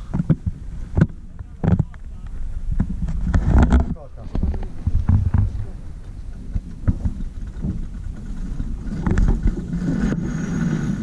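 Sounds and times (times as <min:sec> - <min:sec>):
sailboat low rumble: 0:00.0 - 0:11.0.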